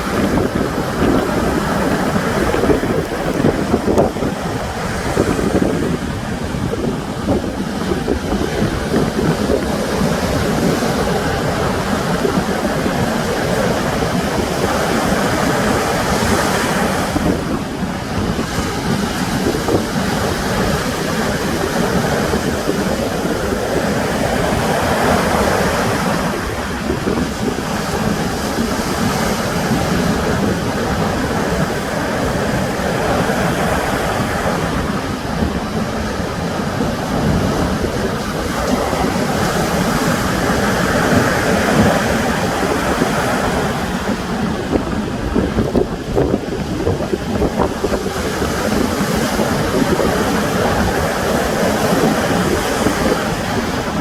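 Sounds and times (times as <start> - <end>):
sea surf washing onto shore: 0.0 - 54.0
wind buffeting microphone: 0.0 - 54.0.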